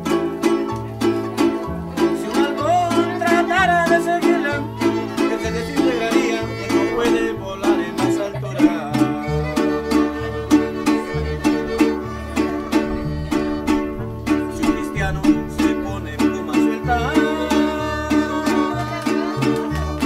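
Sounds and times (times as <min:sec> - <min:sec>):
plucked string chords and bass: 0:00.0 - 0:20.0
violin melody with vibrato: 0:00.8 - 0:20.0.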